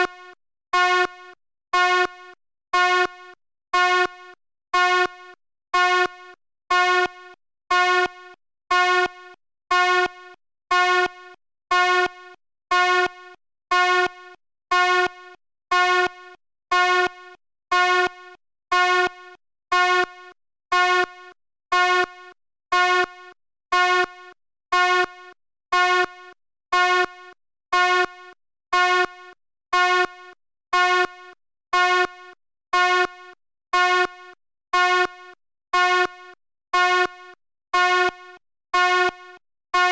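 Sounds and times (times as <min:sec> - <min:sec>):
fire alarm blasts: 0:00.0 - 0:39.9.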